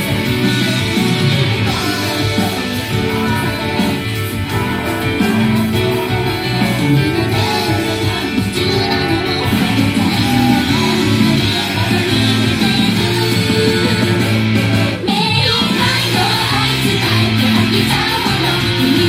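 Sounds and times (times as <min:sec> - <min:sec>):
live pop music with guitar: 0:00.0 - 0:19.0.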